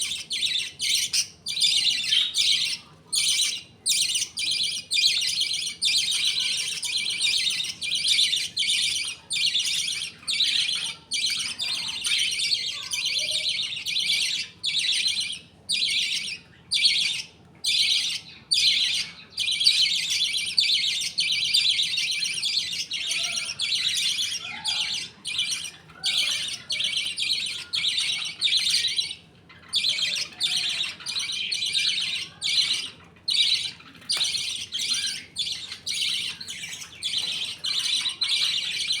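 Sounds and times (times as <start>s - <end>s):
budgies chirping and chattering: 0.0s - 39.0s.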